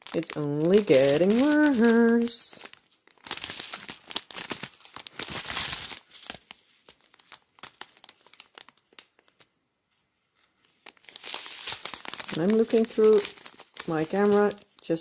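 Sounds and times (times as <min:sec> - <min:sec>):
plastic bags crinkling: 0:00.0 - 0:09.5, 0:10.6 - 0:15.0.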